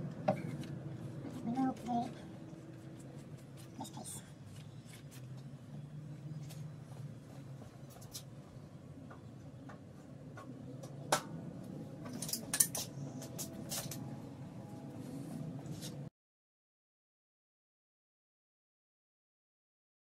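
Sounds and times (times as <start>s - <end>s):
low steady hum: 0.0s - 16.1s.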